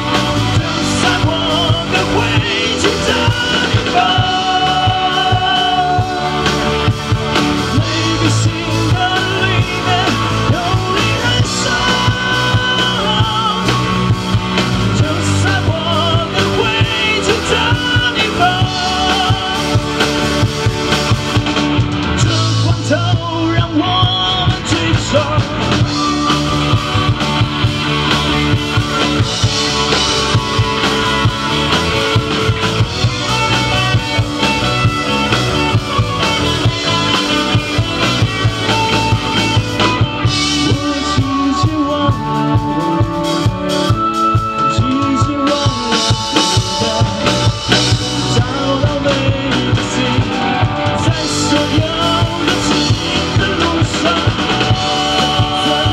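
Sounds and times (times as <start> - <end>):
man singing: 0.0 - 27.4, 28.4 - 55.9
drum kit: 0.0 - 55.9
electric guitar: 0.0 - 55.9.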